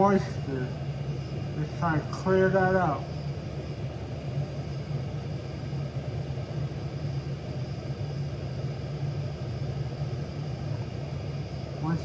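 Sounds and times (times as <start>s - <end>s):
torch flame rumbling: 0.0s - 12.0s.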